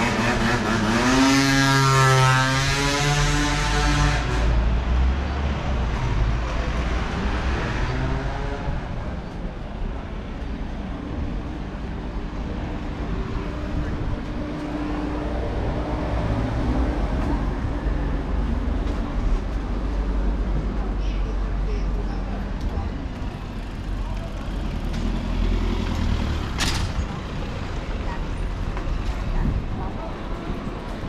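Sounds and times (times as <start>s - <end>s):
engines rumbling: 0.0s - 31.0s.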